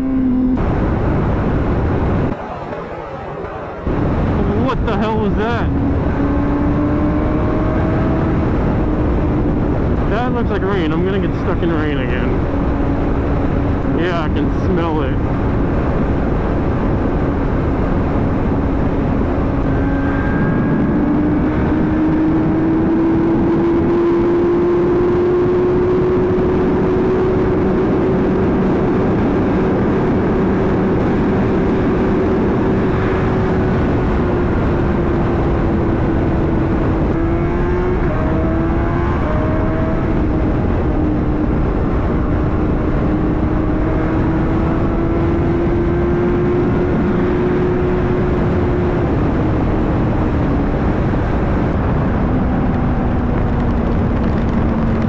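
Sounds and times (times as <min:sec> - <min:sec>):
motorcycle engine cruising: 0:00.0 - 0:55.0
wind rush on helmet: 0:00.0 - 0:55.0.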